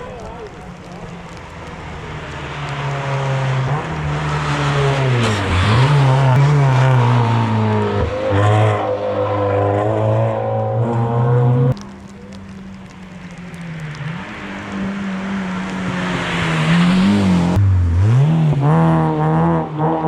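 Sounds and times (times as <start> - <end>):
race car engine revving: 0.0 - 11.8, 13.3 - 20.0.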